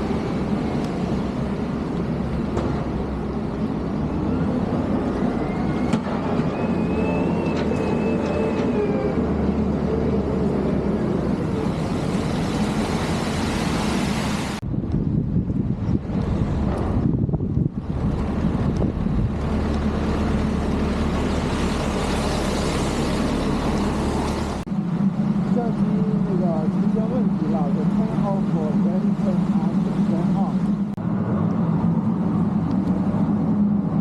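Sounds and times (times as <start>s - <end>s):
heavy machinery engine rumble: 0.0s - 34.0s.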